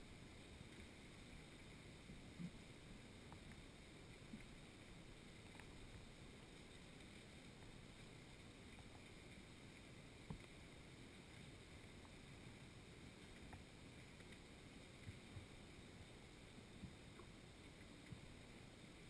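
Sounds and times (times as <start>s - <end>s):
faint ticks: 0.0s - 19.0s
faint underwater rumble: 0.0s - 19.0s.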